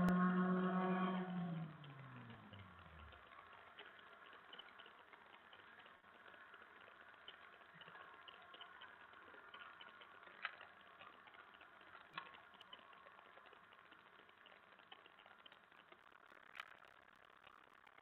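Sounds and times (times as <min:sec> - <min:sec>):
faint tiny ticks: 0:01.0 - 0:18.0.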